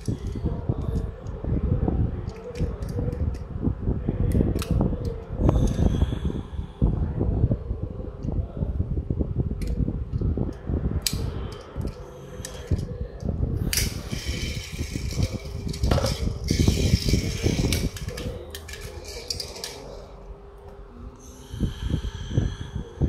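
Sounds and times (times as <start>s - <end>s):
low rumble: 0.0s - 23.0s
steady fan hum: 0.0s - 23.0s.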